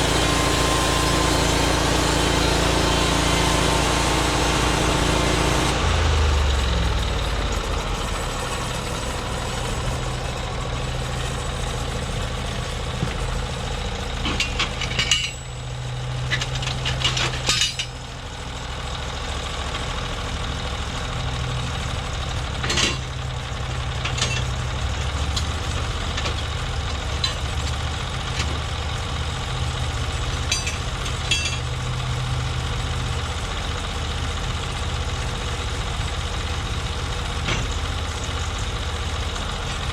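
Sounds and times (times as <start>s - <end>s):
small gas engine idling: 0.0s - 39.9s.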